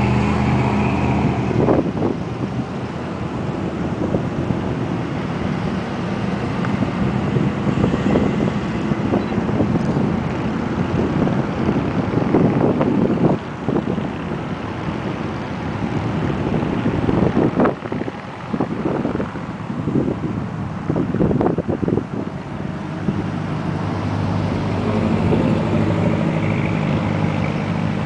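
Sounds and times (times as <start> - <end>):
cars passing on highway: 0.0 - 28.0
wind buffeting microphone: 0.0 - 28.0.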